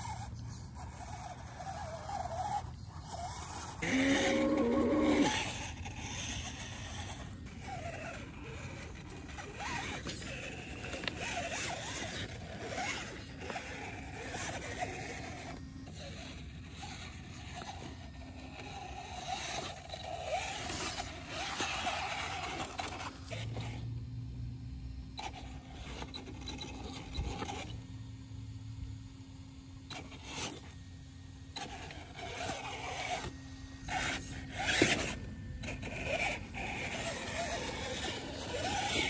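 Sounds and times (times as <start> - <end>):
electric motor and gears whining: 0.0 - 39.0.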